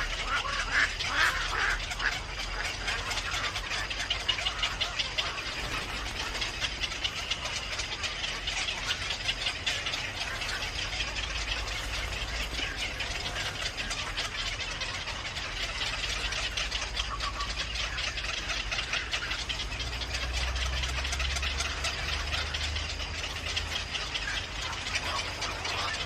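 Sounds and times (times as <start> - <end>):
birds chirping rapidly: 0.0 - 26.0.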